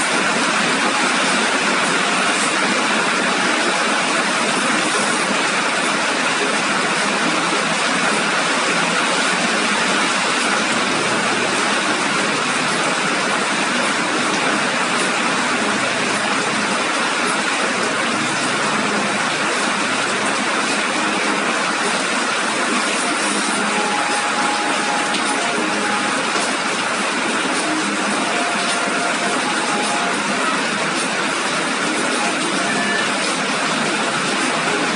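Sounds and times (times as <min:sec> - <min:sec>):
rain falling steadily: 0:00.0 - 0:34.9.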